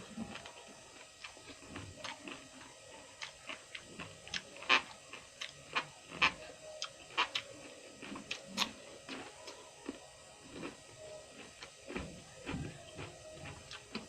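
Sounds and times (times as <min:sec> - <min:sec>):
person chewing and eating: 0:00.0 - 0:14.0.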